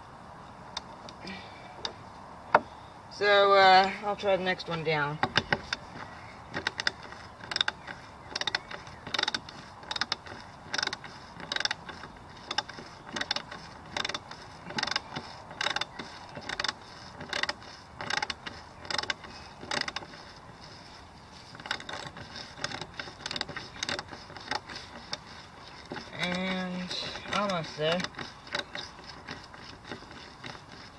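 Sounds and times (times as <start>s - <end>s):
hand ratchet clicking: 5.2s - 30.9s.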